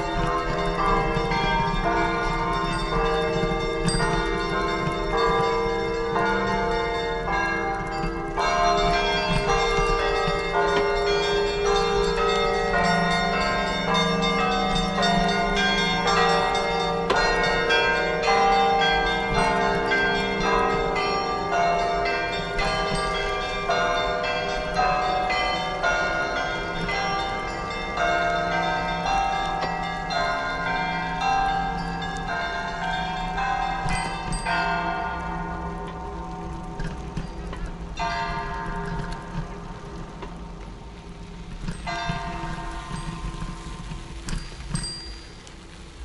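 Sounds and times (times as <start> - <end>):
church bells pealing: 0.0 - 46.0.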